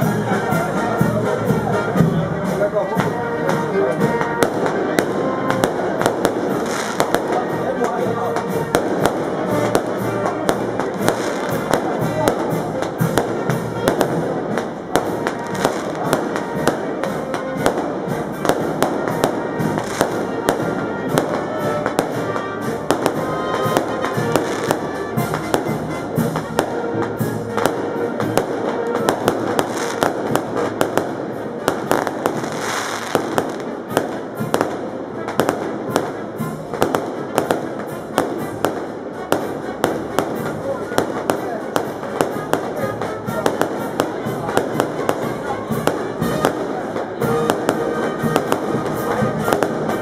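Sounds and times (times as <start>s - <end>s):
crowd noise: 0.0s - 50.0s
firecrackers popping: 0.0s - 50.0s
music: 0.0s - 50.0s.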